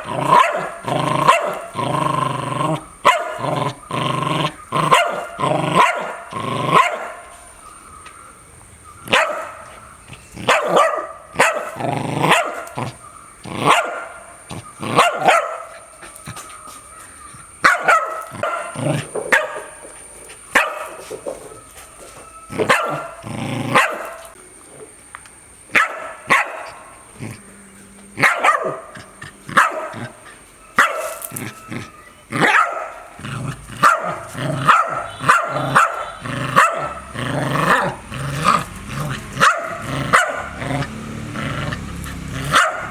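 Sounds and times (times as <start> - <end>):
dog barking loudly: 0.0 - 7.4, 9.0 - 16.4, 17.6 - 19.8, 20.5 - 21.1, 22.6 - 24.3, 25.7 - 26.9, 28.2 - 42.9.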